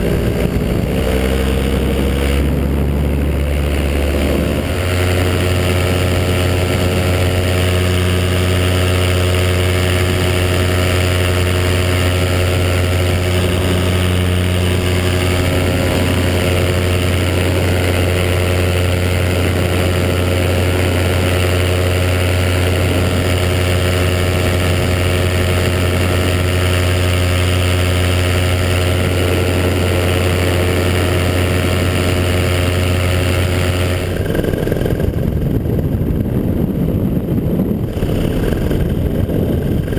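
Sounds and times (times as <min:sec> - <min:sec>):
paramotor engine drone: 0:00.0 - 0:39.9.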